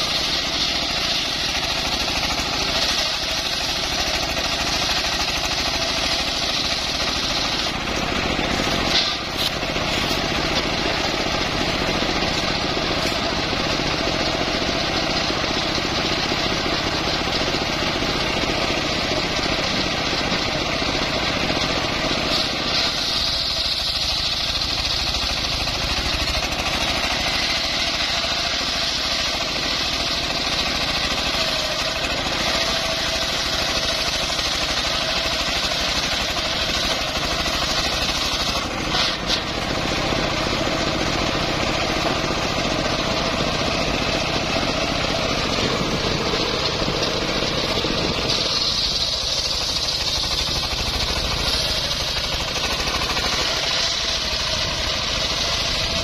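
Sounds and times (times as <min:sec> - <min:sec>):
circular sawmill cutting log: 0:00.0 - 0:56.0.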